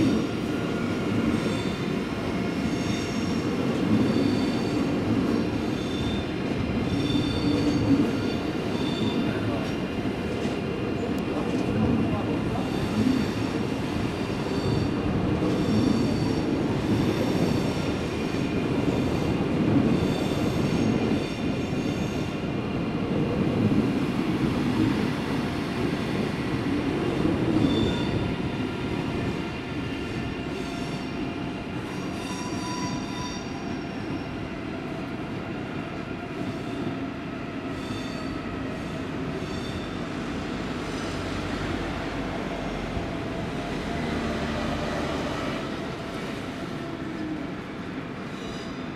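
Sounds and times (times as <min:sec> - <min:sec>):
high-speed train rolling past: 0:00.0 - 0:48.9.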